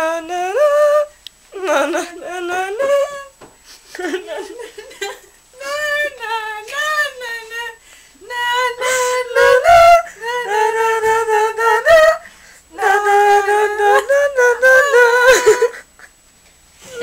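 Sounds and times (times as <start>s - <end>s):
high voice singing unaccompanied: 0.0s - 3.4s, 4.0s - 15.8s.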